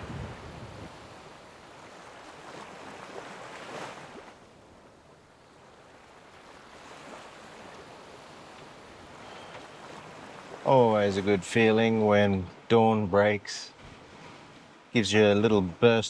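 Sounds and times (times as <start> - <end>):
water rushing along hulls: 0.0 - 16.0.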